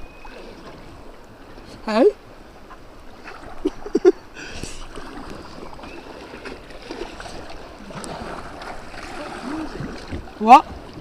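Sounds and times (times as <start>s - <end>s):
river water splashing: 0.0s - 11.0s.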